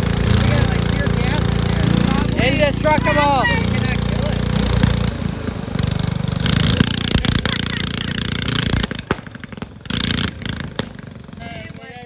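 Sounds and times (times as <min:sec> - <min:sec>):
lawn tractor engine running hard: 0:00.0 - 0:12.0.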